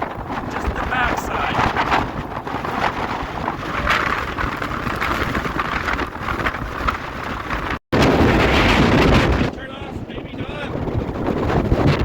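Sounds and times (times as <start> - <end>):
strong wind and rain: 0.0 - 12.0
wind buffeting microphone: 0.0 - 12.0.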